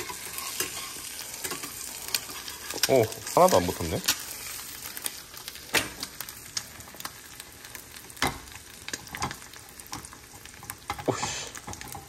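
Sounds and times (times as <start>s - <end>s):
egg sizzling in pan: 0.0s - 12.0s.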